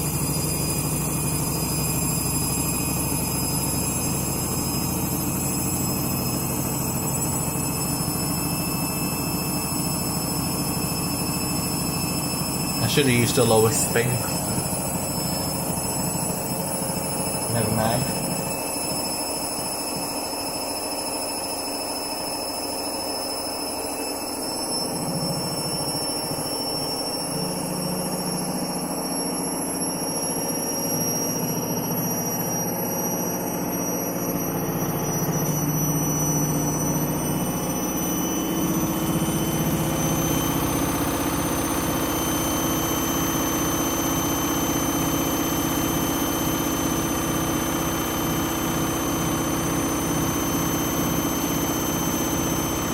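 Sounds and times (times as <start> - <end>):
high whine rising in pitch: 0.0 - 19.8, 24.6 - 52.9
washing machine spinning: 0.0 - 52.9.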